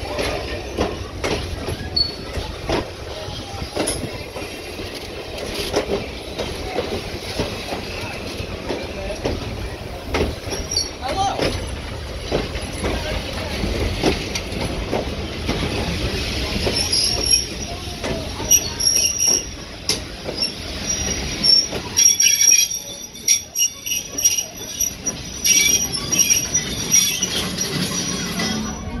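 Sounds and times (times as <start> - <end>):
train wheels squealing on rails: 0.0 - 29.0.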